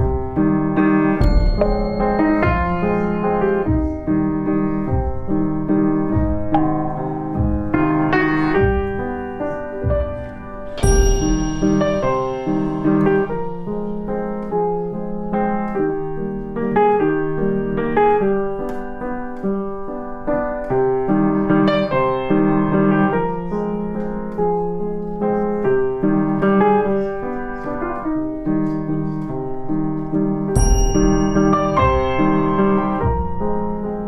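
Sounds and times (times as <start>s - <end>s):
solo piano music: 0.0s - 34.0s.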